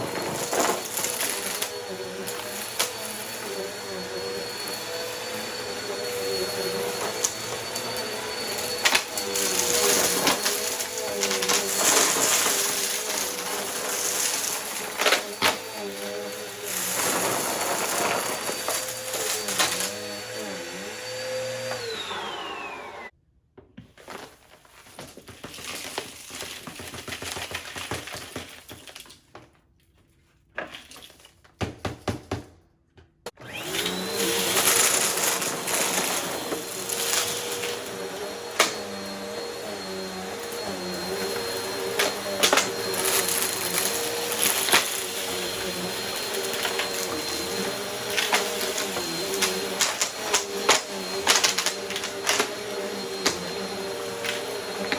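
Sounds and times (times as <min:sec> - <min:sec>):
vacuum cleaner whine: 0:00.0 - 0:23.1, 0:33.3 - 0:54.9
vacuum motor winding down: 0:00.0 - 0:23.1, 0:33.4 - 0:54.9.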